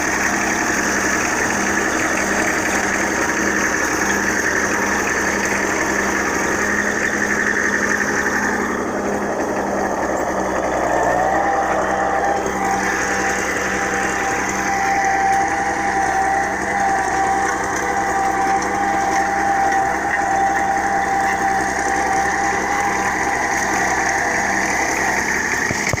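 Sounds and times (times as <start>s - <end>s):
steady whine: 0.0s - 26.0s
tractor engine running: 0.0s - 26.0s.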